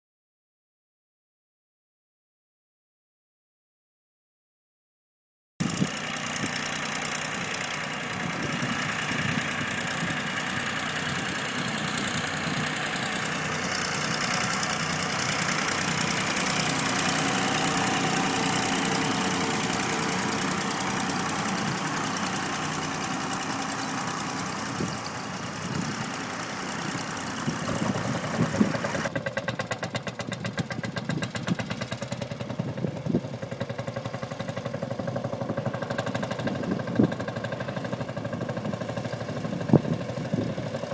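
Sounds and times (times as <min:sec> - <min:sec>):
tractor engines driving past: 0:05.6 - 0:40.9.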